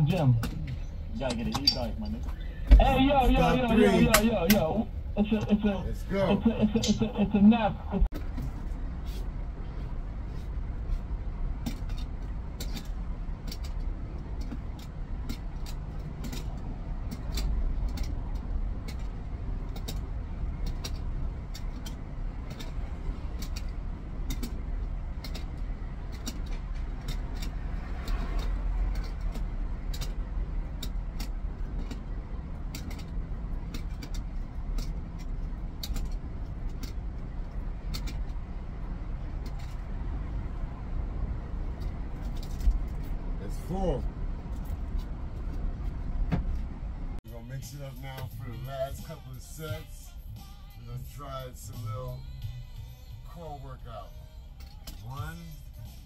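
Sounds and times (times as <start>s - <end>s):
low vehicle rumble: 0.0s - 56.0s.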